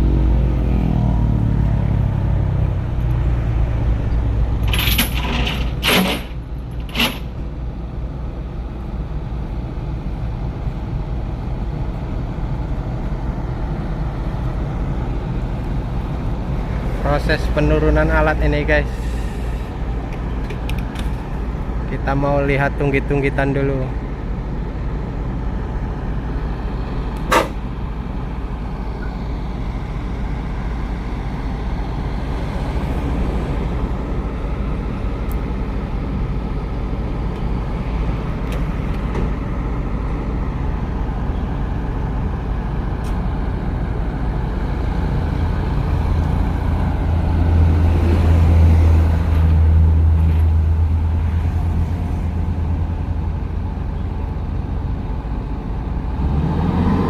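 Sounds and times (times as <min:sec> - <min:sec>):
heavy diesel engine running: 0:00.0 - 0:56.4.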